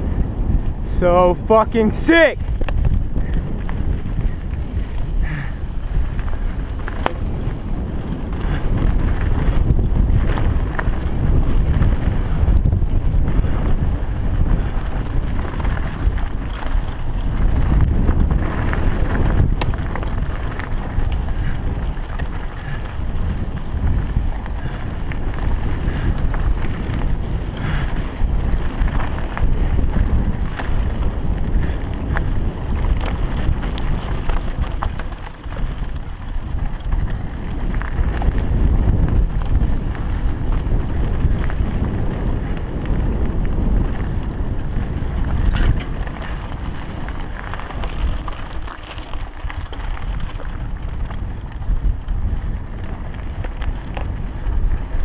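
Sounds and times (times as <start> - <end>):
bike clicks and rattles: 0.0 - 55.0
wind buffeting microphone: 0.0 - 55.0.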